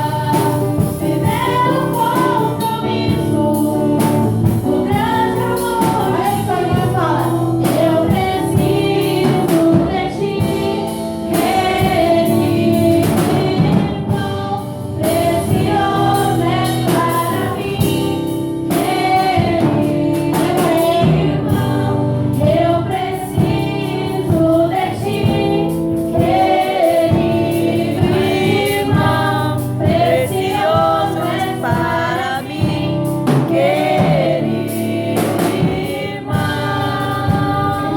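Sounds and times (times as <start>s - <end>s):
group singing a hymn: 0.0s - 37.9s
instrumental accompaniment: 0.0s - 37.9s.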